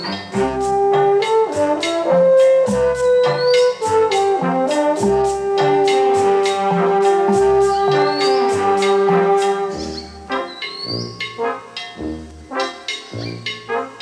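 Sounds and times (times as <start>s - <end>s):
brass melody: 0.0s - 14.0s
percussive beat: 0.2s - 14.0s.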